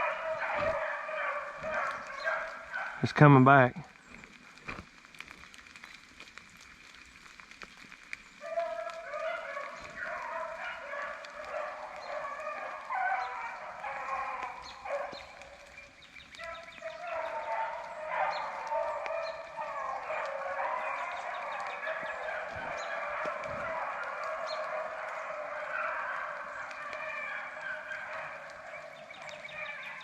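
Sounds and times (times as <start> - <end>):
dogs baying together: 0.0 - 3.0, 8.4 - 30.0.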